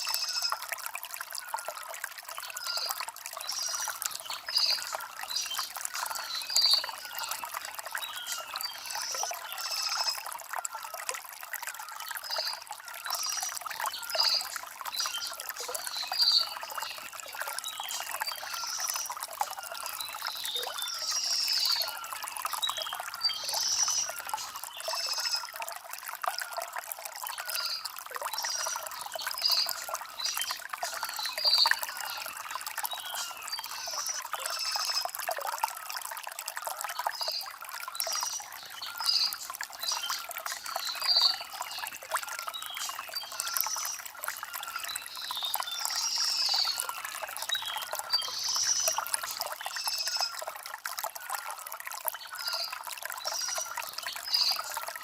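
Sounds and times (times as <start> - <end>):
stream water trickling over stones: 0.0 - 55.0.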